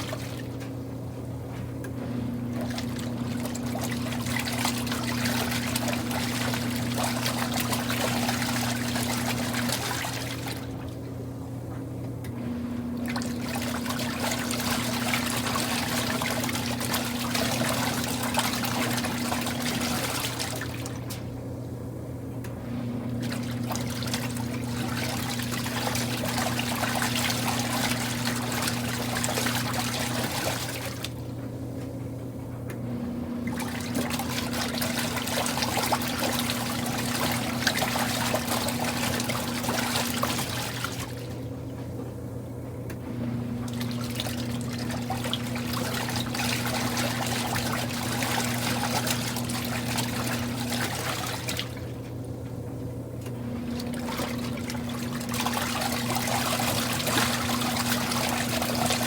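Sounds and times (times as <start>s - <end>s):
steady machine hum: 0.0s - 59.0s
water churning in washing machine: 0.0s - 59.0s.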